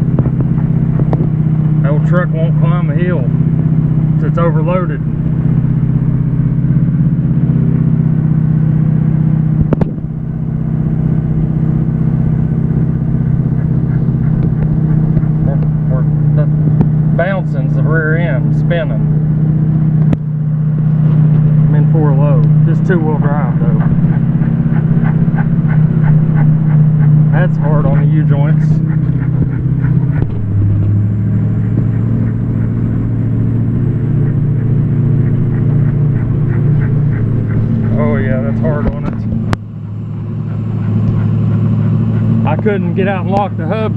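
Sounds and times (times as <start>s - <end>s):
diesel engine under heavy load: 0.0s - 43.9s
tires spinning: 0.0s - 43.9s.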